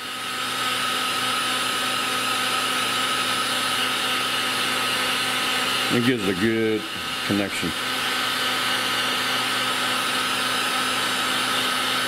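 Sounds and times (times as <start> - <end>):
hot air gun fan whining: 0.0 - 12.0.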